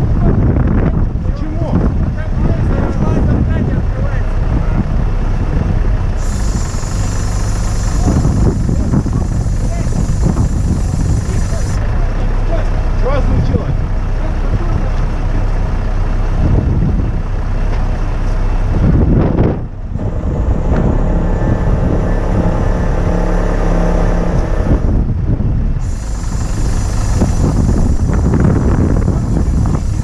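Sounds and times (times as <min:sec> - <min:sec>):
wind buffeting microphone: 0:00.0 - 0:11.9, 0:16.3 - 0:30.0
diesel engine running: 0:00.0 - 0:30.0.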